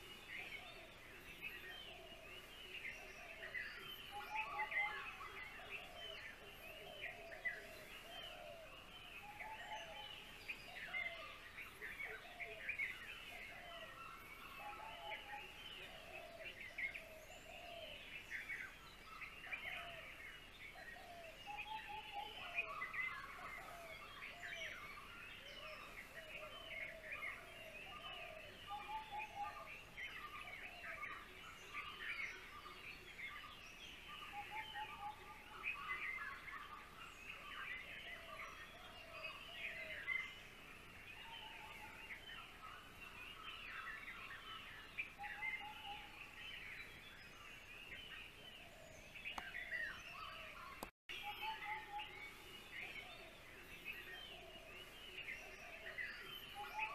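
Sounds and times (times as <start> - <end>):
many birds chirping: 0.0 - 56.9.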